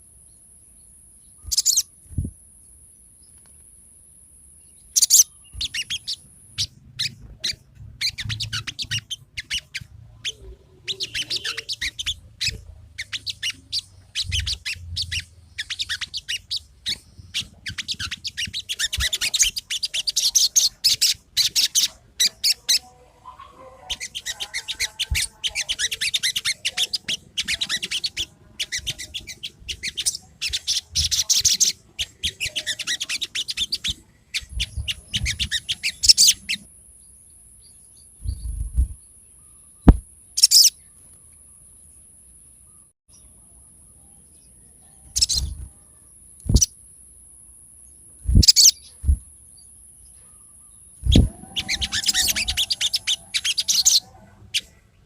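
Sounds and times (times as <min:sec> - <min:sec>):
bird chirps and trills: 0:00.3 - 0:02.3, 0:04.6 - 0:46.8, 0:47.8 - 0:55.0.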